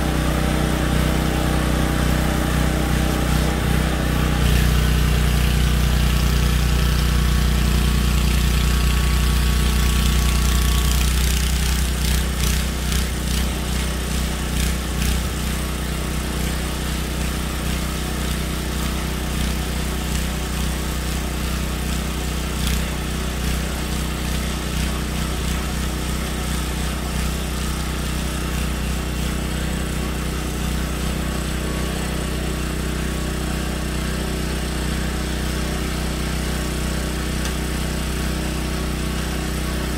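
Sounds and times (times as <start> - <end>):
snow blower engine running: 0.0 - 39.9.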